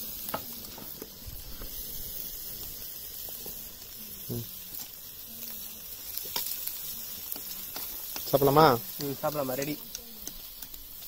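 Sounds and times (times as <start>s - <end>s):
fish sizzling in oil: 0.0s - 11.0s
oil crackles: 0.0s - 11.0s.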